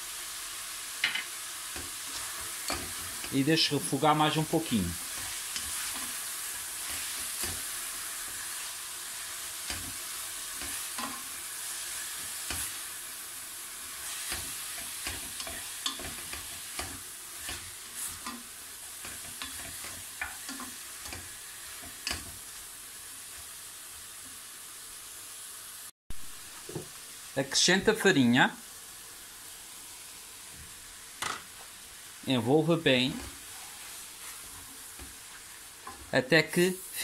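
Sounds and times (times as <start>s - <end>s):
food sizzling in a pot: 0.0s - 37.0s.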